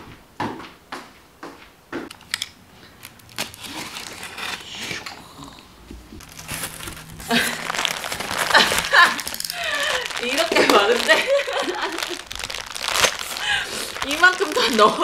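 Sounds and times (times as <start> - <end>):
plastic and cardboard crinkling: 2.1 - 15.0.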